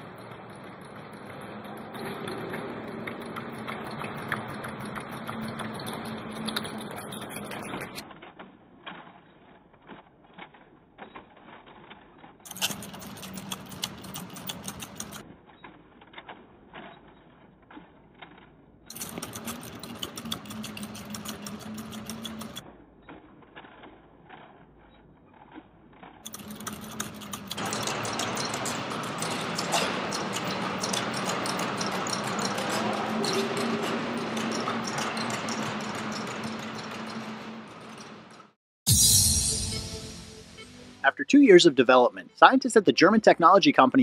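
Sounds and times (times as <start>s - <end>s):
robot legs clattering: 0.0s - 9.3s, 9.9s - 15.2s, 15.8s - 22.6s, 23.2s - 38.5s.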